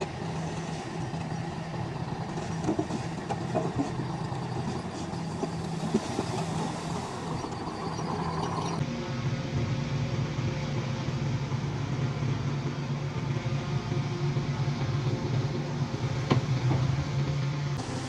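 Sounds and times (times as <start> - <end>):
construction machine engine running: 0.0 - 18.0.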